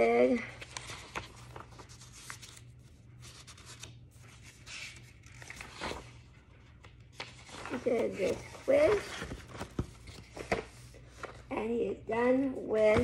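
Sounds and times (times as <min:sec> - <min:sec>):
paper pages rustling: 0:00.3 - 0:11.5.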